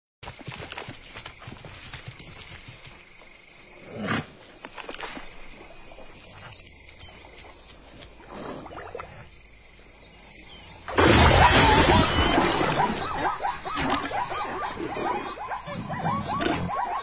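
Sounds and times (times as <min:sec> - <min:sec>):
faint outdoor background: 0:00.2 - 0:17.0
insect chirping: 0:00.2 - 0:17.0.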